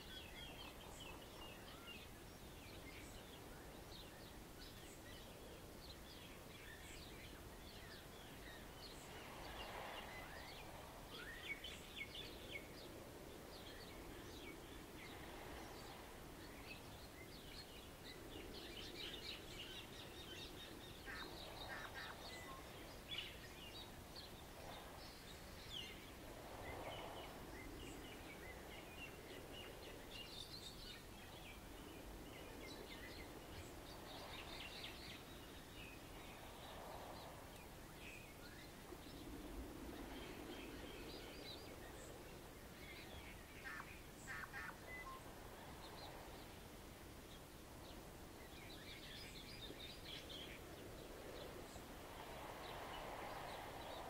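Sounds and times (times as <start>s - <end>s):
waves washing onto shore: 7.4s - 48.4s, 49.7s - 54.0s.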